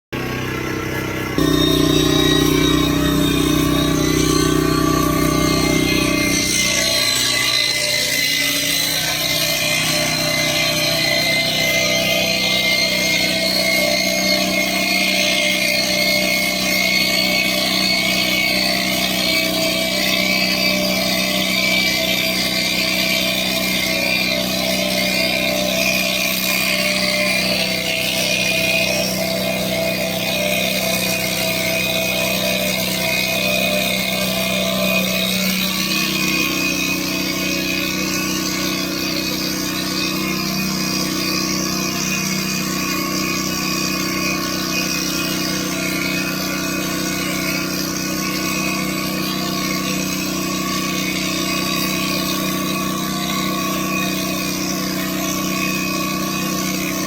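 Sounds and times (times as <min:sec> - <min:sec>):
electric hair clippers running: 0:00.3 - 0:57.0.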